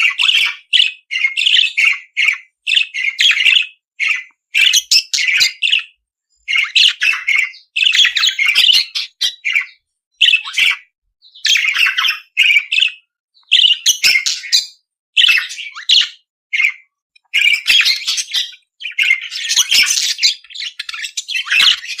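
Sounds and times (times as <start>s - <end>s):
budgerigar chirping and squawking: 0.0s - 22.0s.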